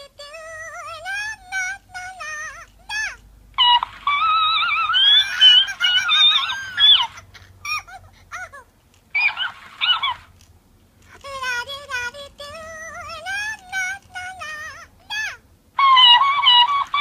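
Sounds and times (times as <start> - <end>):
electronic toy chattering and singing: 0.0 - 10.3, 11.0 - 17.0.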